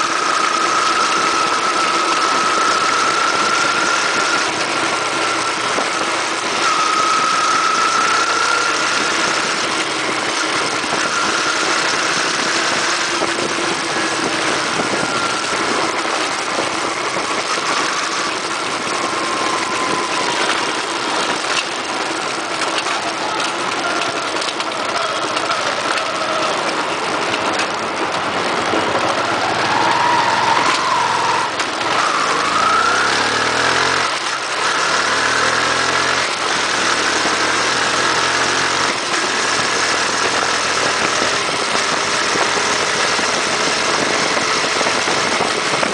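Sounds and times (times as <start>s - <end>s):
motorcycle engine running: 0.0s - 45.9s
road noise: 0.0s - 45.9s.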